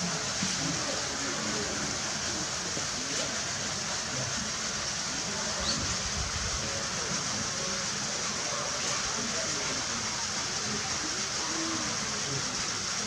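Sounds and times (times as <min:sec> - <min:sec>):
faint murmur of voices: 0:00.0 - 0:13.0
running water: 0:00.0 - 0:13.0.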